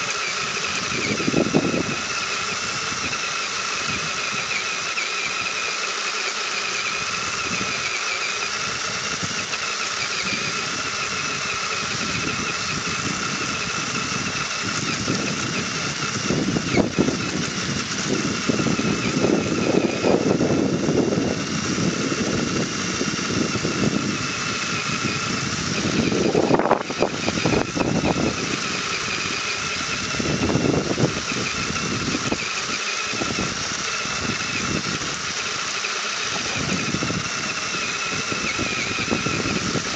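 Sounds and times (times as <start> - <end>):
rough driving noise: 0.0 - 39.9
toy car electric motor whine: 0.0 - 39.9.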